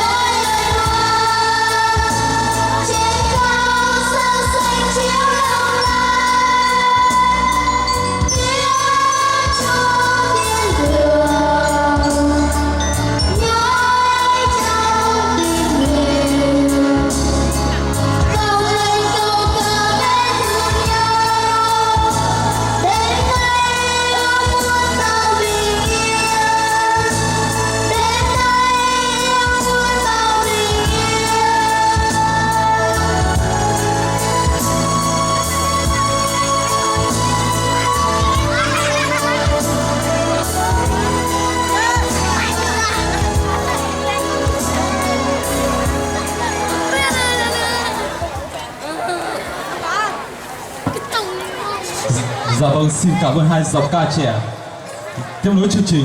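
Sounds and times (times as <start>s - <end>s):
two young singers: 0.0s - 48.4s
instrumental accompaniment: 0.0s - 48.7s.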